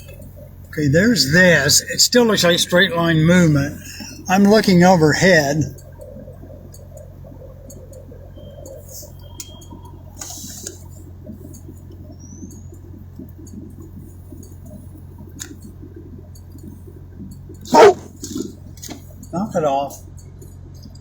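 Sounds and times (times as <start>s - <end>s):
faint clicks and rustles: 0.0s - 21.0s
vehicle engine idling: 0.0s - 21.0s.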